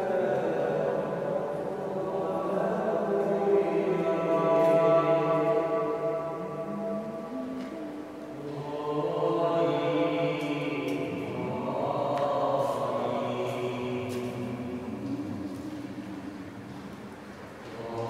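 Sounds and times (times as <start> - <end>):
chant in reverberant church: 0.0 - 18.0.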